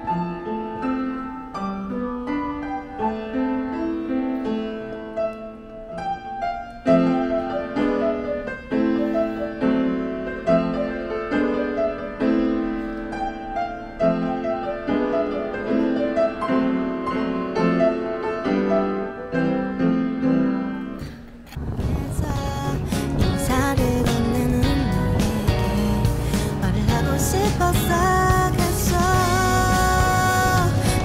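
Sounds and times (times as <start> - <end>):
piano melody over chords: 0.0 - 31.0.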